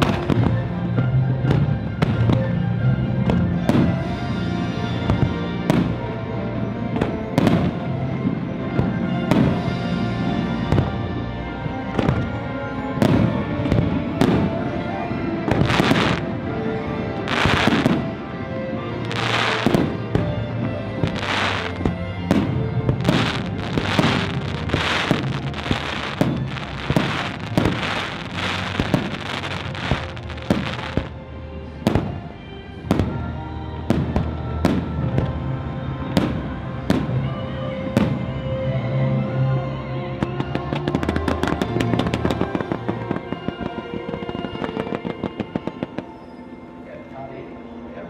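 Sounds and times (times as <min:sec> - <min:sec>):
orchestral music: 0:00.0 - 0:48.0.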